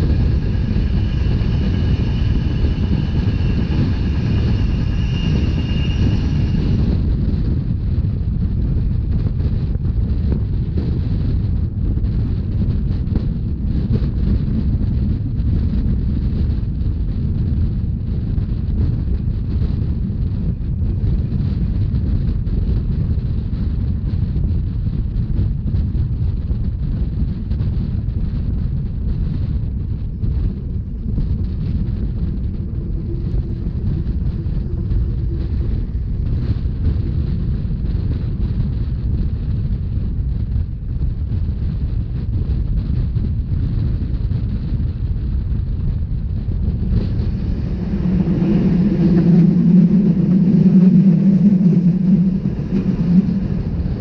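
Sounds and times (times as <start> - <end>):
train rumbling at speed: 0.0 - 54.0
wind buffeting microphone: 0.0 - 54.0.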